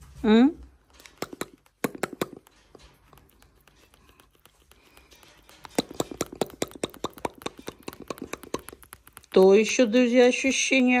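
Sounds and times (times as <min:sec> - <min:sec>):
cockatoo beak clicking and grinding: 0:00.7 - 0:10.9.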